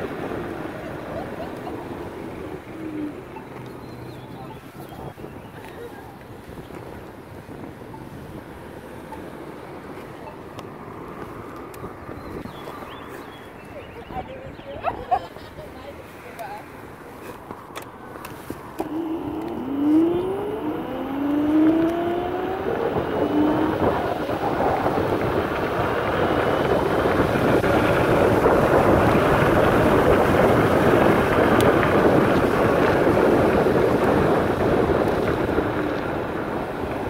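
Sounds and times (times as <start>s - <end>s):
vehicle whine rising: 0.0s - 15.2s, 17.5s - 37.0s
wind and road noise: 0.0s - 37.0s.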